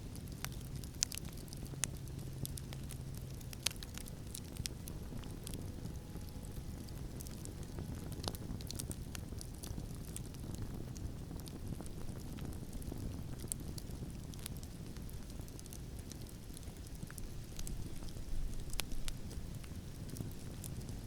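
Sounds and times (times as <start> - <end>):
campfire crackling and popping: 0.0 - 21.0
low rumble of wind: 0.0 - 21.0.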